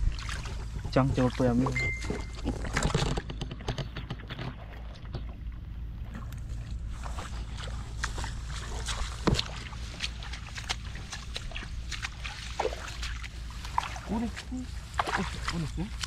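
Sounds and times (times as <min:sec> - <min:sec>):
squelching and splashing in mud: 0:00.0 - 0:16.0.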